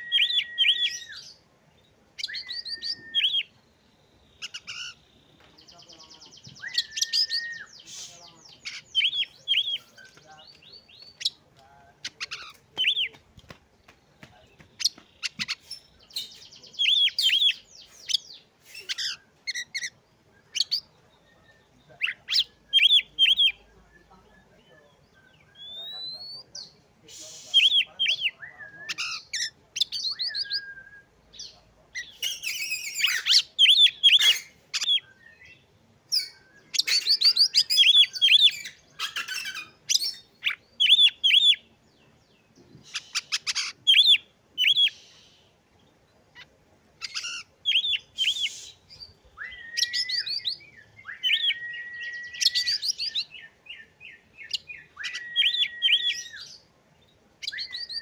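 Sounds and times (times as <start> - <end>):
bird singing: 0.0 - 58.0.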